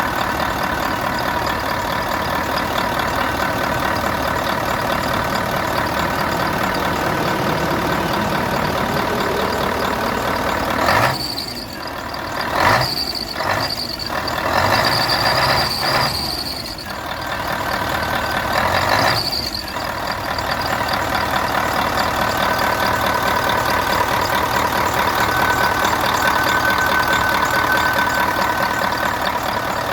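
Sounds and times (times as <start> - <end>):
diesel engine idling: 0.0 - 29.9.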